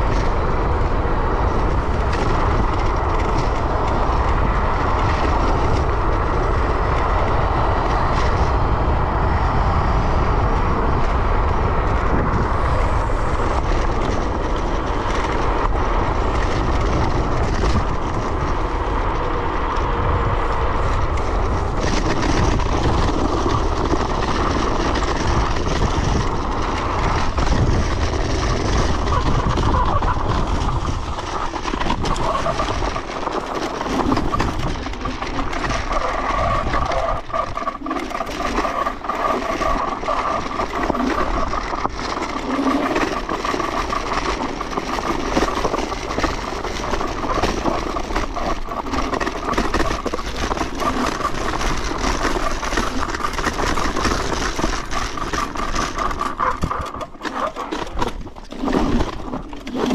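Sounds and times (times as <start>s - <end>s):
scooter tyre noise on road: 0.0s - 59.9s
wind rushing over microphone: 0.0s - 59.9s.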